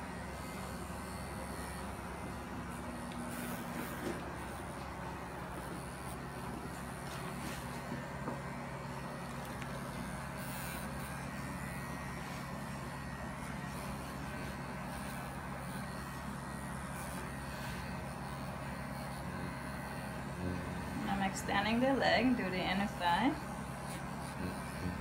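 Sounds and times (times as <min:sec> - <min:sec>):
electric clippers humming: 0:00.0 - 0:25.0.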